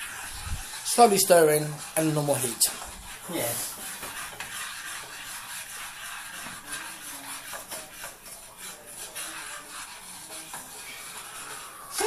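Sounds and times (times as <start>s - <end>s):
spoon scraping saucepan: 0.0s - 12.0s.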